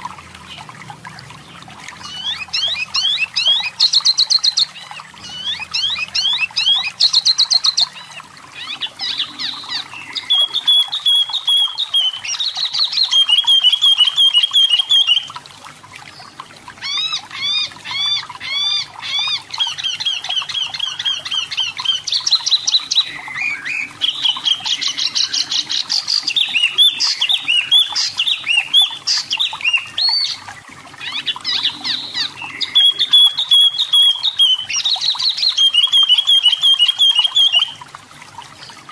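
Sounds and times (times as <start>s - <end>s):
bird chirps and trills: 0.0s - 15.4s, 16.1s - 38.9s.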